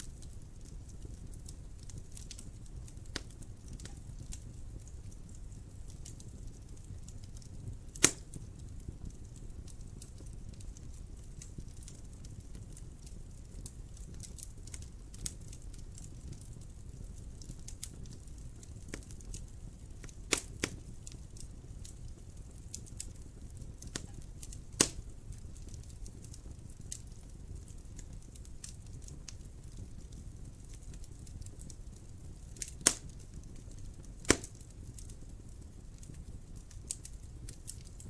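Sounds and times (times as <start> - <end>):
fire rumbling: 0.0 - 38.0
wood fire crackling and popping: 0.0 - 38.0.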